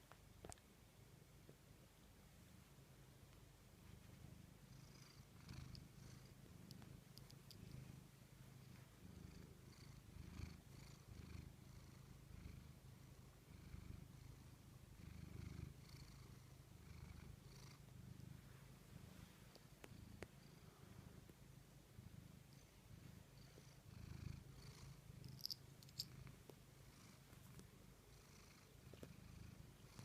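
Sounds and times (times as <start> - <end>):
cat purring: 3.7 - 30.0.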